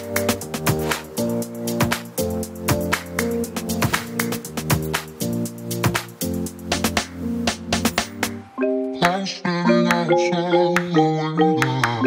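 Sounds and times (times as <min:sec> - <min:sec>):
background music with percussion beat: 0:00.0 - 0:12.0.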